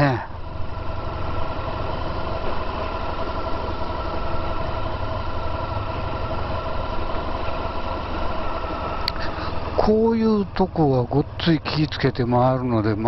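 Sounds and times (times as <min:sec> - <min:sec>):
motorcycle engine running at low revs: 0:00.3 - 0:13.0.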